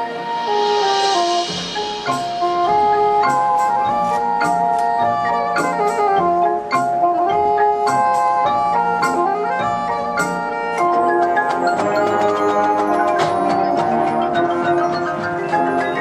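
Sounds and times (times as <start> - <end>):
marching band held chords: 0.0 - 16.0
marimba and glockenspiel melody: 0.0 - 16.0.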